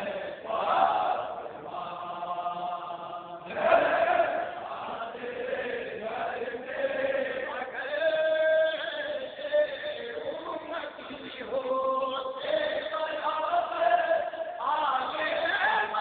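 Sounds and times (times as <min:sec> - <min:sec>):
man chanting a lament: 0:01.2 - 0:16.0.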